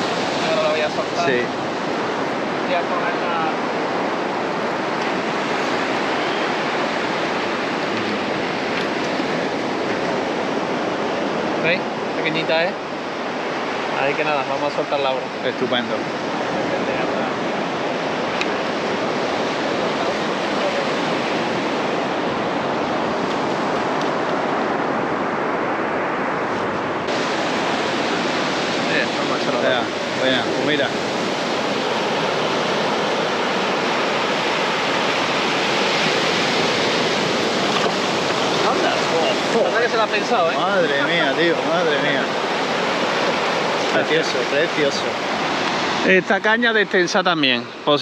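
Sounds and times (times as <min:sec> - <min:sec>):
sea surf washing onto beach: 0:00.0 - 0:48.0.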